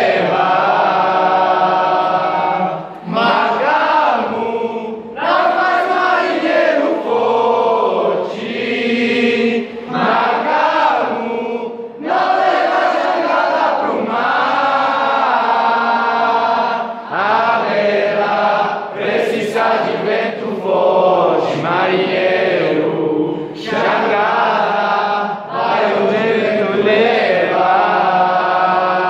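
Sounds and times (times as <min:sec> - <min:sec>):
group of voices singing: 0:00.0 - 0:29.0.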